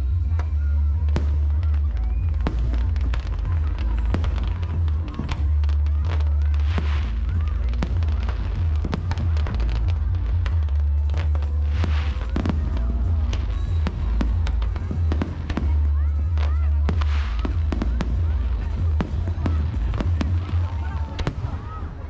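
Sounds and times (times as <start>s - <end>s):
loud music with heavy bass: 0.0s - 21.6s
fireworks bangs and crackles: 0.0s - 22.0s.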